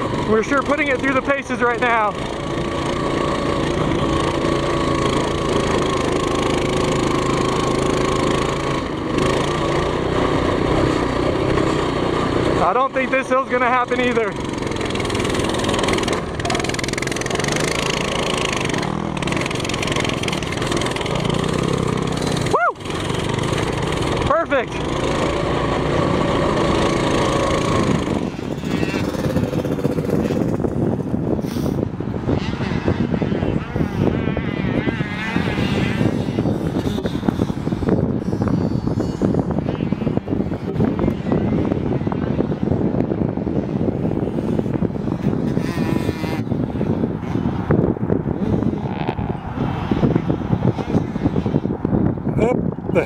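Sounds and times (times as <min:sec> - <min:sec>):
small motorbike engine running hard: 0:00.0 - 0:53.0
wind noise: 0:00.0 - 0:53.0.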